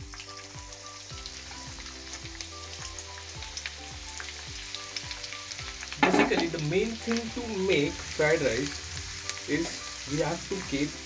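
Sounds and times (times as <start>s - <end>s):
cabbage sizzling in hot oil: 0.0s - 11.0s.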